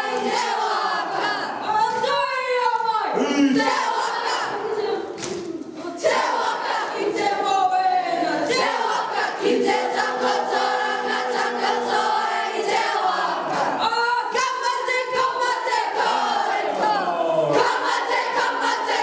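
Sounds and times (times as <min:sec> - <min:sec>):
girls singing in unison: 0:00.0 - 0:19.0.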